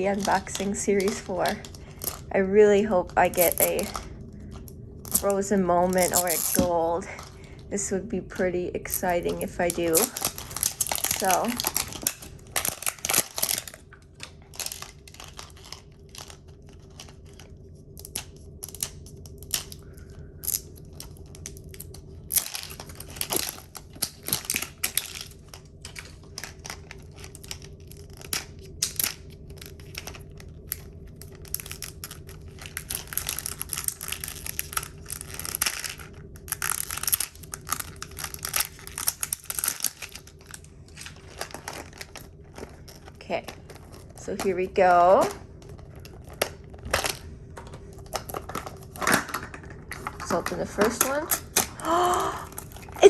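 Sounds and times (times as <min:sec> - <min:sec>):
plastic packaging crinkling and tearing: 0:00.0 - 0:53.0.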